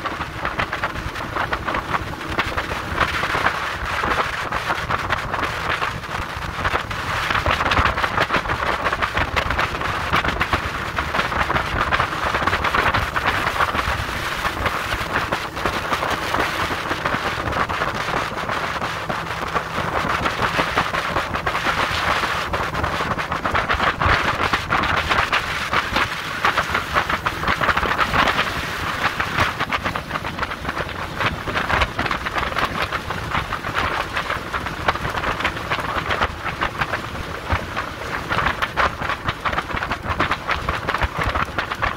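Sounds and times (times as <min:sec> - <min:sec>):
water rushing along boat hull: 0:00.0 - 0:41.9
wind buffeting microphone: 0:00.0 - 0:41.9.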